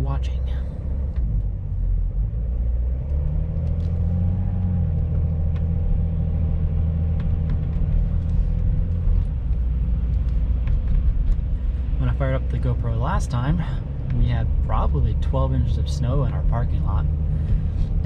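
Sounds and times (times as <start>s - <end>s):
faint engine hum: 0.0s - 18.0s
road and engine rumble in car: 0.0s - 18.0s.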